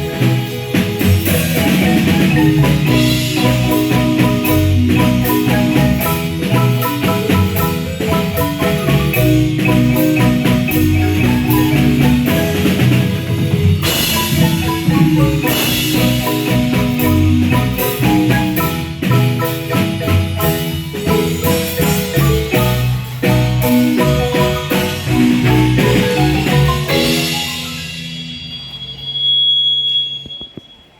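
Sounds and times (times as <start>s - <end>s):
marimba band playing: 0.0s - 28.6s
high percussion hiss: 0.0s - 30.9s.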